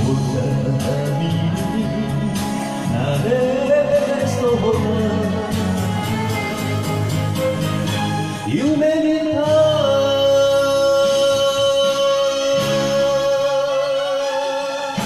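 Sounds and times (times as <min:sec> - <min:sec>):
man singing into microphone: 0:00.0 - 0:06.1, 0:08.4 - 0:15.0
backing music: 0:00.0 - 0:15.0.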